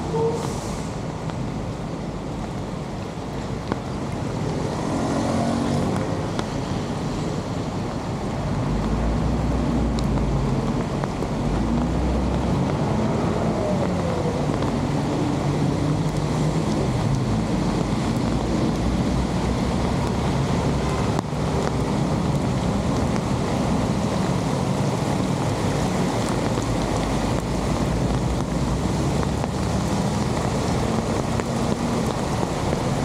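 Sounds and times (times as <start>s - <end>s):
heavy rain on water: 0.0s - 33.0s.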